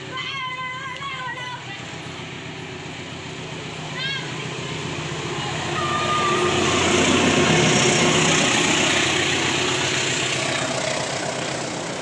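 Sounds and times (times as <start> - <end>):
train passing rumble: 0.0 - 12.0.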